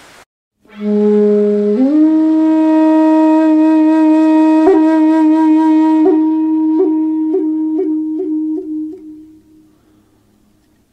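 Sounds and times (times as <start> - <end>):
flute holding long note: 0.6 - 10.2.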